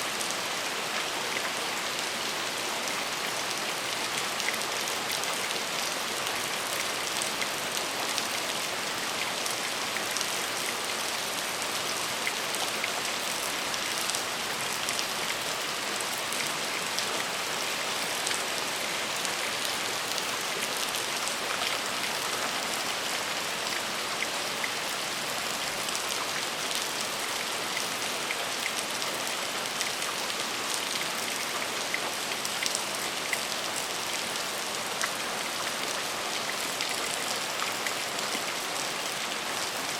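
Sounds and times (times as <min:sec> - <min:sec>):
rain on hard surface: 0:00.0 - 0:39.9.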